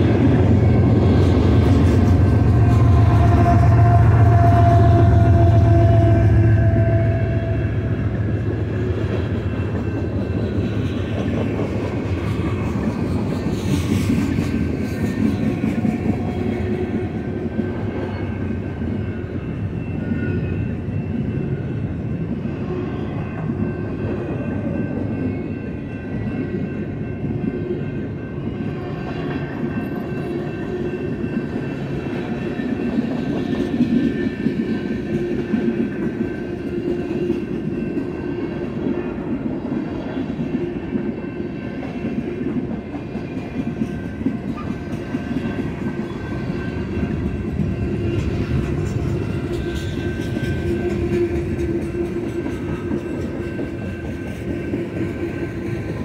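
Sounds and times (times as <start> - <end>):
train wheels clickety-clack: 0.0 - 56.0.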